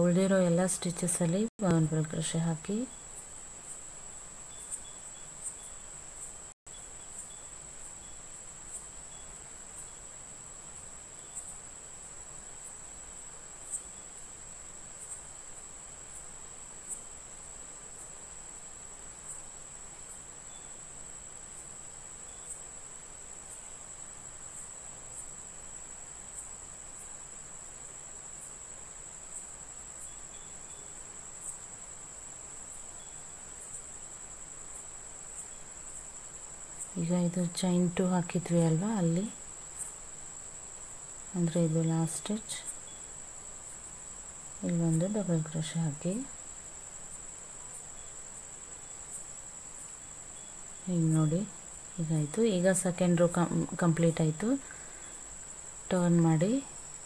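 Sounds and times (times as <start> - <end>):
cricket trill: 0.0 - 57.0.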